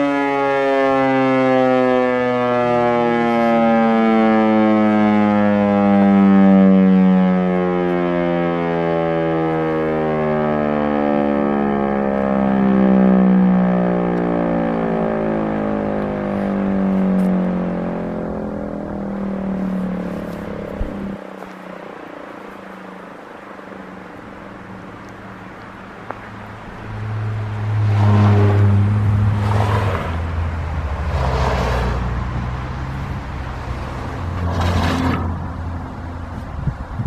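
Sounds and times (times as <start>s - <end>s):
warning siren winding down: 0.0s - 34.5s.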